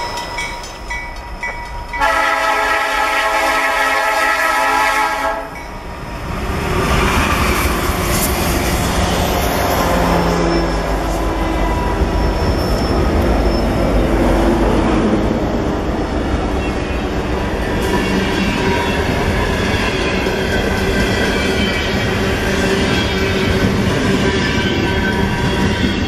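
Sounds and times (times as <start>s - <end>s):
train wheels on rails: 0.0s - 26.0s.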